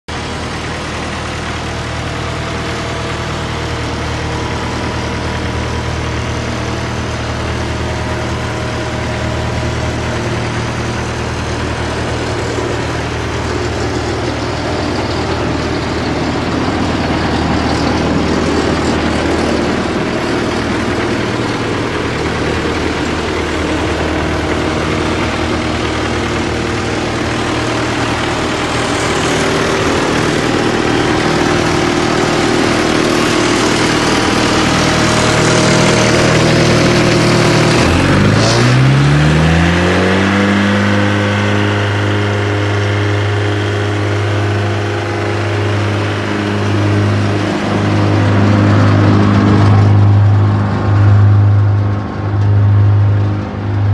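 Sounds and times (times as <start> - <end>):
wood chipper engine idling: 0.1 - 53.9.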